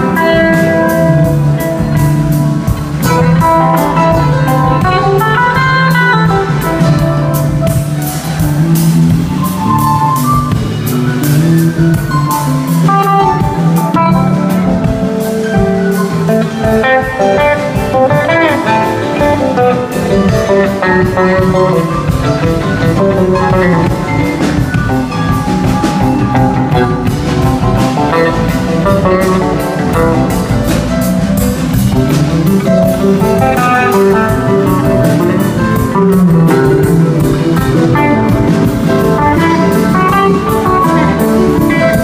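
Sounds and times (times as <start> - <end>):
electric guitar note runs: 0.0 - 42.0
rock band playing: 0.0 - 42.0.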